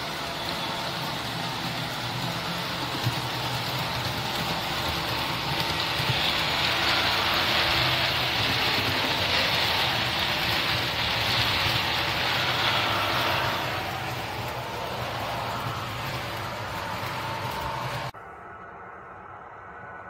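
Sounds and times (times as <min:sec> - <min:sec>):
model train engine hum: 0:00.0 - 0:18.2
model train wheels on track: 0:00.0 - 0:18.2.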